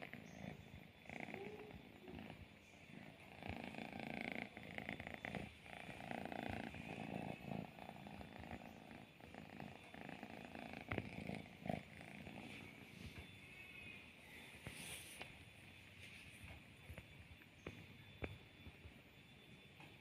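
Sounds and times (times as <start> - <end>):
cat purring: 0.0 - 18.7.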